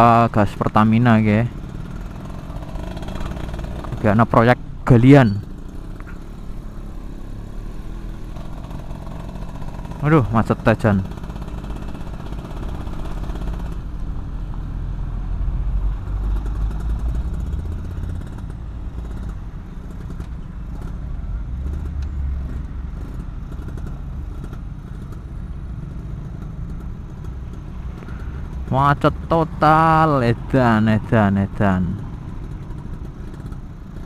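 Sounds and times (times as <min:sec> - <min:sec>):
motorcycle engine running: 0:00.0 - 0:34.0
surrounding traffic: 0:00.0 - 0:34.0.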